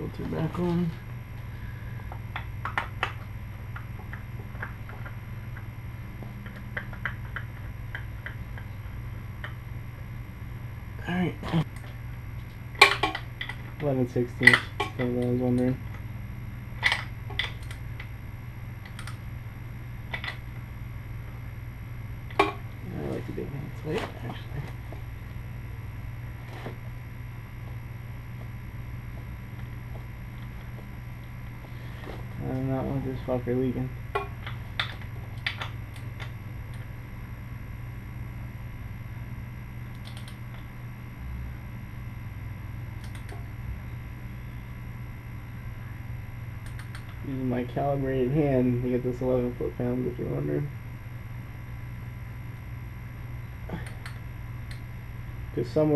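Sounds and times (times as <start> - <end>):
low steady hum: 0.0 - 55.9.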